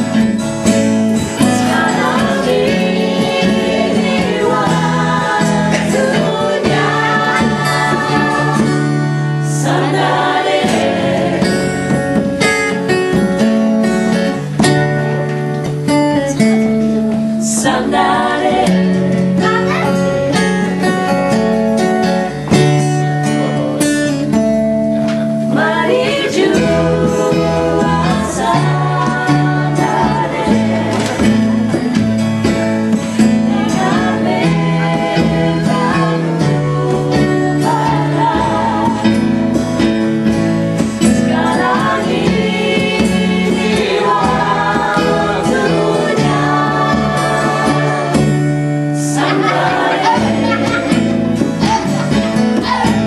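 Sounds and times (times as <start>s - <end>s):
people singing with guitar: 0.0s - 53.0s.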